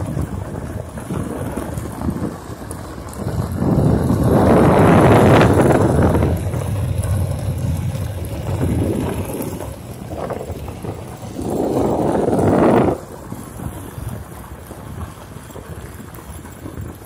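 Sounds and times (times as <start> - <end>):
vehicle driving on dirt road: 0.0 - 17.0
wind buffeting microphone: 0.0 - 17.0.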